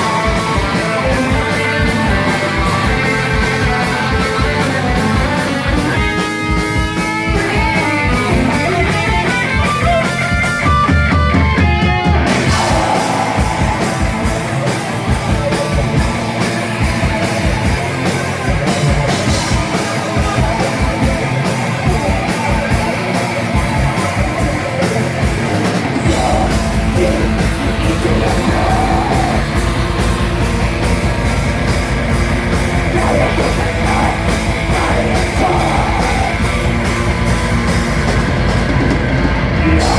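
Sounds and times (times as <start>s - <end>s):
picked electric guitar line: 0.0s - 39.9s
rock band playing live: 0.0s - 39.9s.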